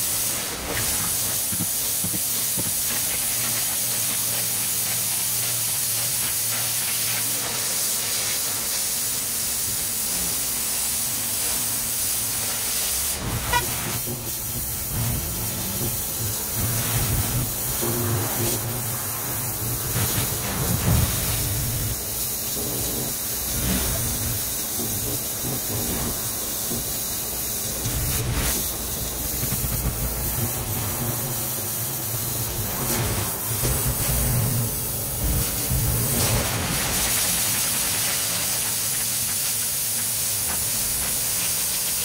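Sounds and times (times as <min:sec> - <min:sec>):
pressure washer spraying water: 0:00.0 - 0:42.0.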